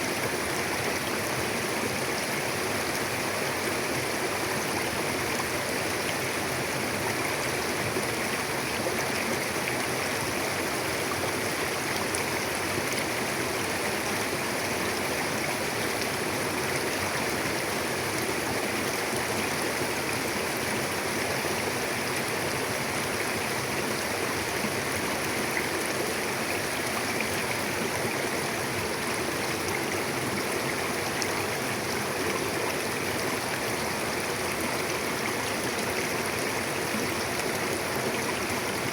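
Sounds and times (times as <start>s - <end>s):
river flowing over rocks: 0.0s - 38.9s.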